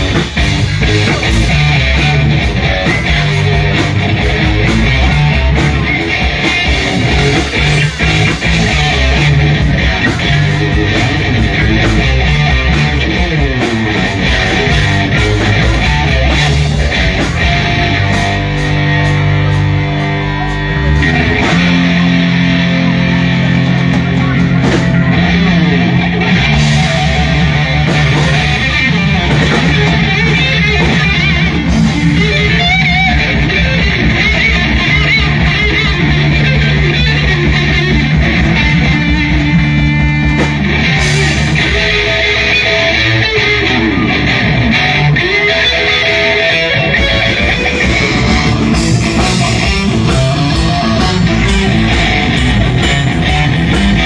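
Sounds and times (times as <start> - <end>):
bass notes: 0.0 - 54.0
electric guitar: 0.0 - 54.0.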